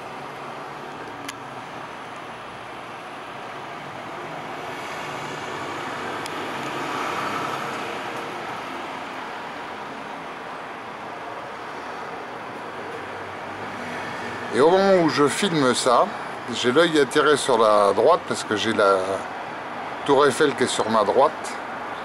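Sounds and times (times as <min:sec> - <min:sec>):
vehicle passing: 0:00.0 - 0:20.3
city traffic noise: 0:00.0 - 0:22.0.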